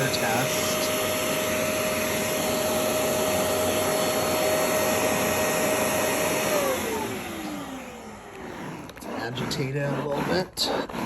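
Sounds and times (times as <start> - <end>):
spot cleaner suction motor whining: 0.0 - 11.0.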